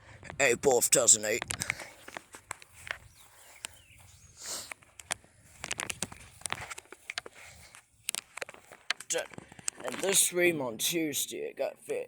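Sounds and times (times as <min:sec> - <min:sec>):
sharp clicks and crackles: 0:00.2 - 0:10.3
footsteps: 0:00.3 - 0:10.3.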